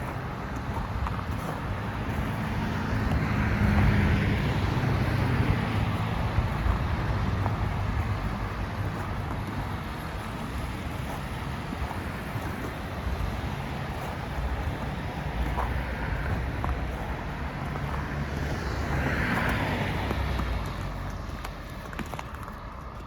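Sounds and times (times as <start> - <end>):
vehicle passing: 0.0 - 22.4
outdoor noise: 0.0 - 23.0
wind rumbling on microphone: 0.0 - 23.0.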